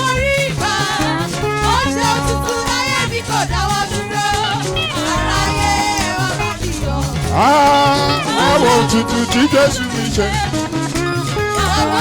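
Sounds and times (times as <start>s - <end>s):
gospel band playing: 0.0s - 12.0s
shaker: 0.0s - 12.0s
voices singing: 0.0s - 12.0s.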